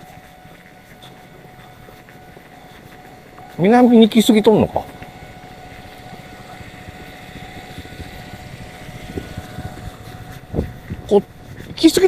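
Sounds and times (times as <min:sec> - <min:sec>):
faint high whine: 0:00.0 - 0:12.0
traffic rumble: 0:00.0 - 0:12.0
motor scooters riding past: 0:01.2 - 0:12.0.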